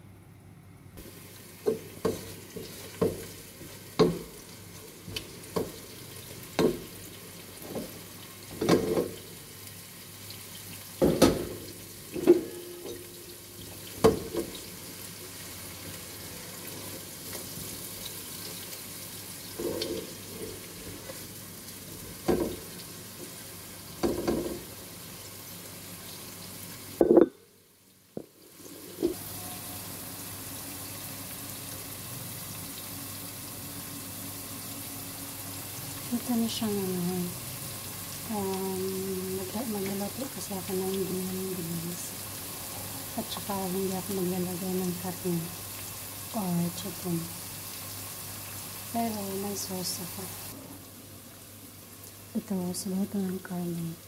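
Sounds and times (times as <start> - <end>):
food sizzling in oil: 1.0 - 54.0.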